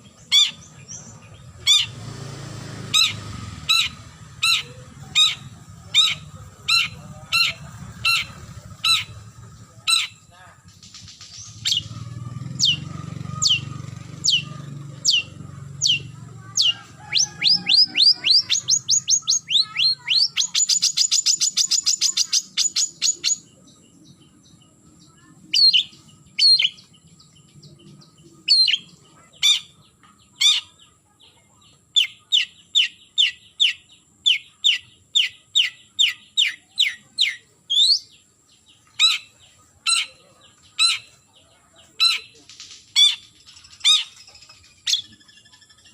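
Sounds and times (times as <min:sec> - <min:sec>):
shrike calling: 0:00.0 - 0:31.0, 0:31.9 - 0:45.9.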